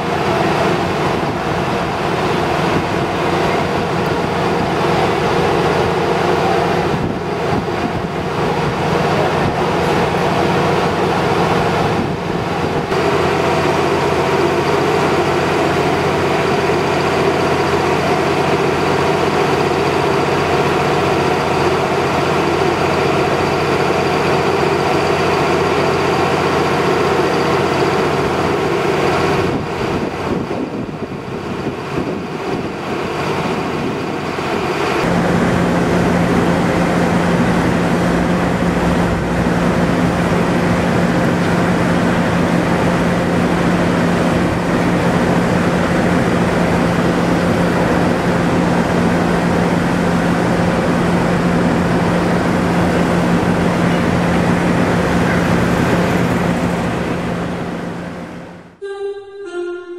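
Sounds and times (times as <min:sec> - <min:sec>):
diesel locomotive engine running: 0:00.0 - 0:59.9.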